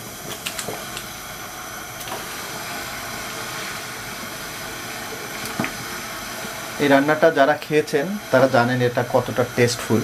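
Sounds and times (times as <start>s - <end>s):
pot simmering hiss: 0.0s - 10.0s.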